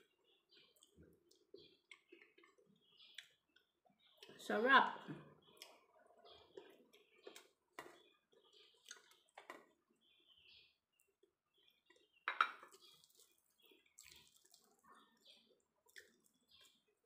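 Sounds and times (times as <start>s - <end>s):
faint chewing: 0.0s - 4.4s, 5.4s - 17.0s.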